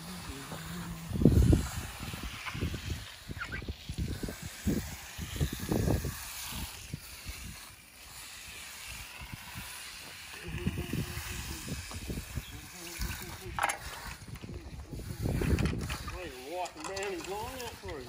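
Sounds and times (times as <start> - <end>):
wind buffeting microphone: 0.0 - 7.7, 8.8 - 18.0.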